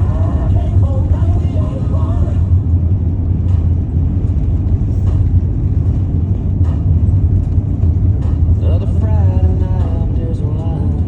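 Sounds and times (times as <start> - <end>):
car rumbling on the move: 0.0 - 11.0.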